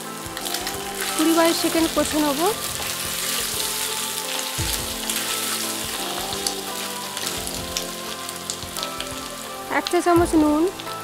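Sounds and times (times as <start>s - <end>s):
food sizzling in a pan: 0.0s - 11.0s
soft background music: 0.0s - 11.0s.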